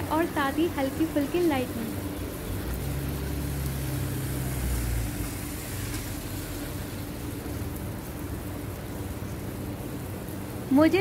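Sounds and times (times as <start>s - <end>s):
heavy rain: 0.0s - 11.0s
car driving past on wet street: 1.0s - 10.1s.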